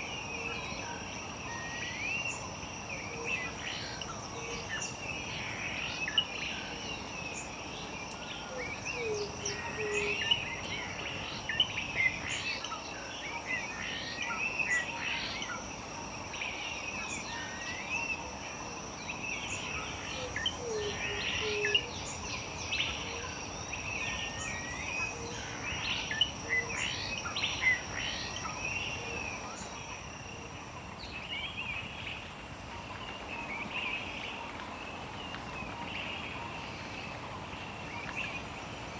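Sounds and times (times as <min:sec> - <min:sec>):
high insect whine: 0:00.0 - 0:34.4
small birds chirping and warbling: 0:00.0 - 0:38.5.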